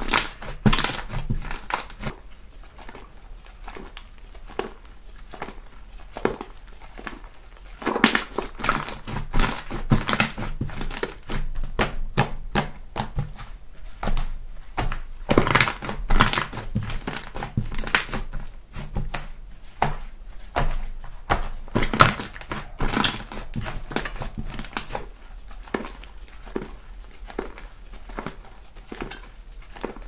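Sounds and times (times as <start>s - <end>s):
slime squishing: 0.0s - 30.0s.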